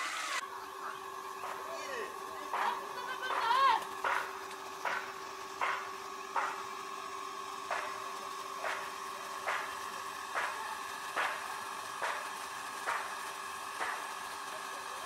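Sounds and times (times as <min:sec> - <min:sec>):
electric water pump humming: 0:00.0 - 0:15.0.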